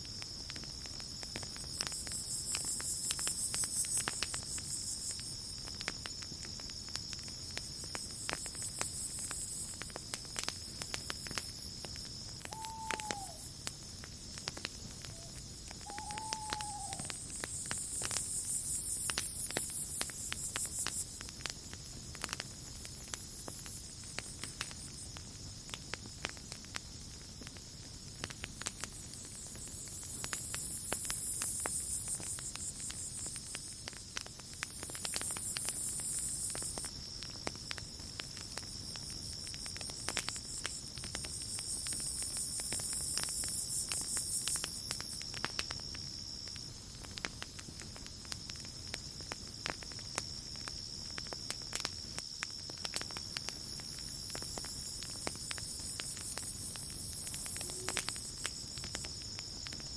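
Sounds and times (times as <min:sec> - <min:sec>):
campfire crackling and popping: 0:00.0 - 0:59.9
cricket trill: 0:00.0 - 0:59.9.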